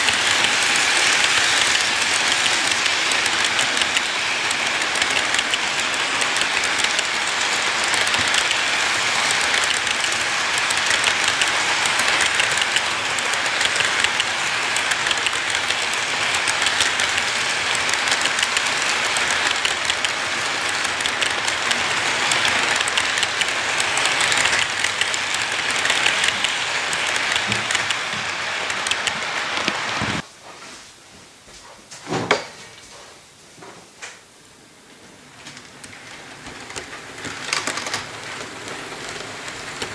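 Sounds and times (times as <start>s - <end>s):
model train wheels clattering: 0.0s - 30.2s, 35.4s - 39.9s.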